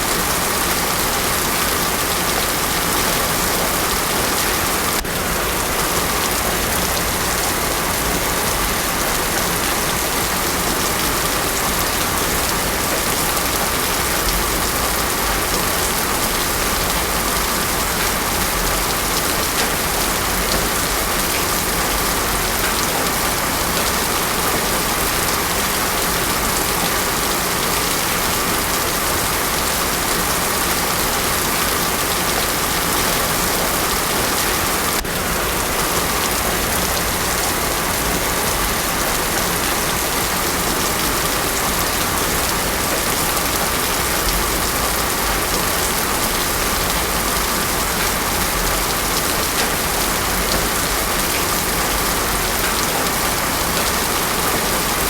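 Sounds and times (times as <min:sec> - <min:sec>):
heavy rain on road: 0:00.0 - 0:55.0.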